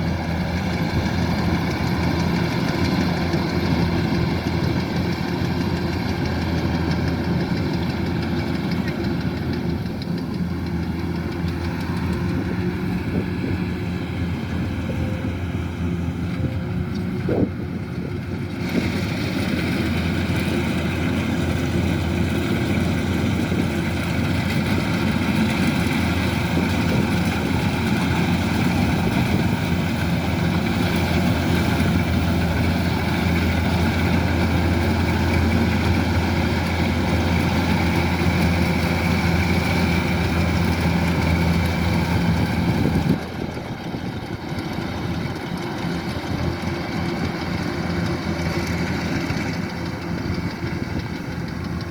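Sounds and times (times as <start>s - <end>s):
combine harvester engine droning: 0.0s - 51.9s.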